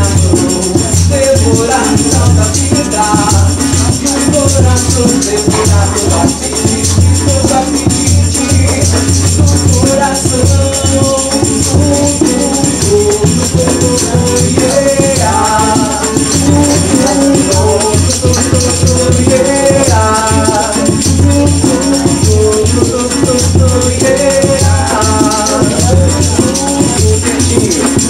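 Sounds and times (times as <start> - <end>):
percussion: 0.0 - 28.0
person singing: 0.0 - 28.0.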